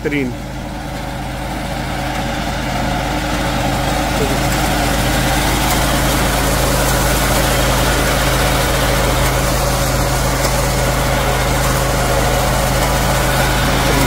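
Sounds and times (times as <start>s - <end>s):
petrol engine running steadily: 0.0s - 14.0s.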